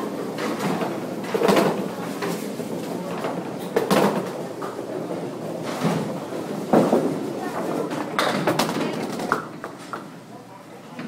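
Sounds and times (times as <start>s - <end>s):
bowling lanes din: 0.0s - 11.0s.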